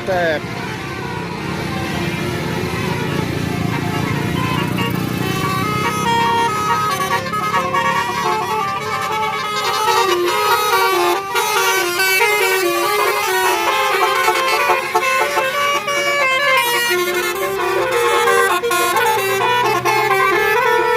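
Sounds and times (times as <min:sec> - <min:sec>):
bus horn playing a melody: 0:00.0 - 0:20.9.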